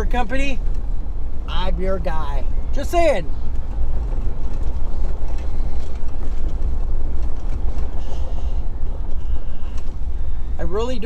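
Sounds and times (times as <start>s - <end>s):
truck engine and tyres rumbling: 0.0s - 11.0s.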